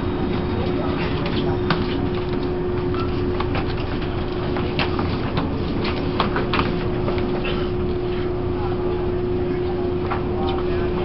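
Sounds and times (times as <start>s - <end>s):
constant hum: 0.0s - 11.0s
train rumble: 0.0s - 11.0s.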